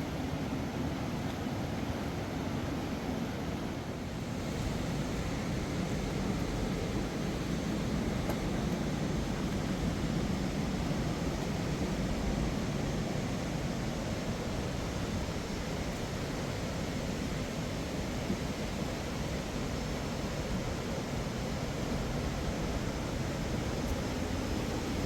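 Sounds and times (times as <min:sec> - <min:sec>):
fast river rushing: 0:04.1 - 0:25.0.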